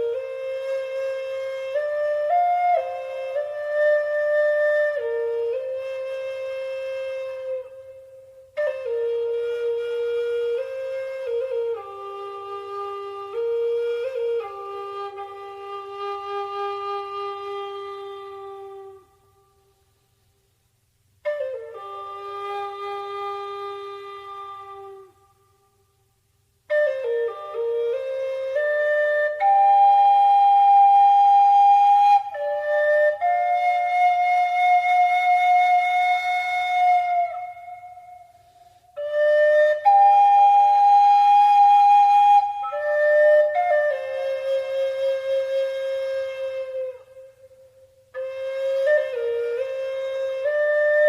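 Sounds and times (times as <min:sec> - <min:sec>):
flute playing slow notes: 0:00.0 - 0:20.2, 0:21.2 - 0:51.0.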